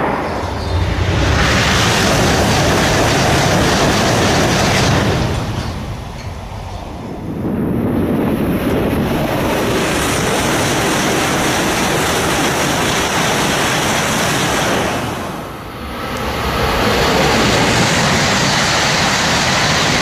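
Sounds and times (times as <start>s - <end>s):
high-speed train passing: 0.0s - 20.0s.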